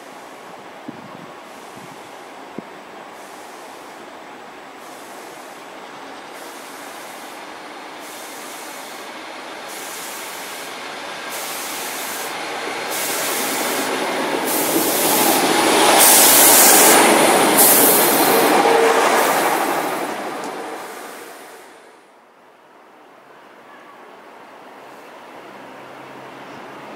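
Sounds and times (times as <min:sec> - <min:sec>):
diesel train passing: 0:00.0 - 0:22.2, 0:24.2 - 0:26.9.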